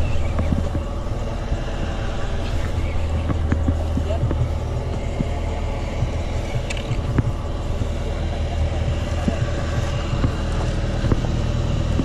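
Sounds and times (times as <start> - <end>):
motor boat engine droning: 0.0 - 12.0.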